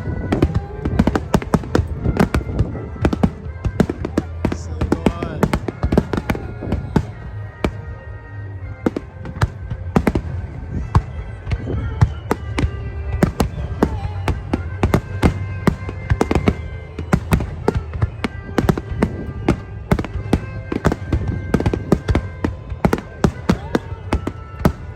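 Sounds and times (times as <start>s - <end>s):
fireworks bursting in a barrage: 0.0s - 24.9s
music playing: 0.0s - 24.9s.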